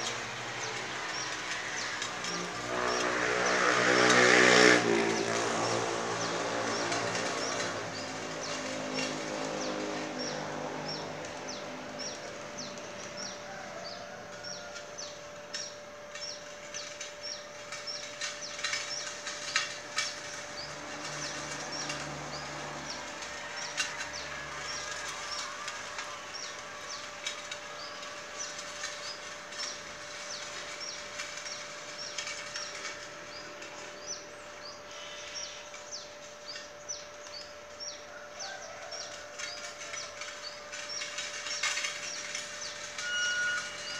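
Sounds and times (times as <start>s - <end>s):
electric tractor humming: 0.0s - 38.3s, 39.1s - 43.9s.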